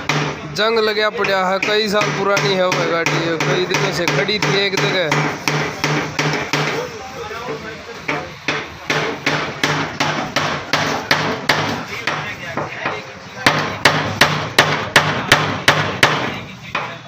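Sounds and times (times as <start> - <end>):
rapid hammer blows: 0.0 - 17.0.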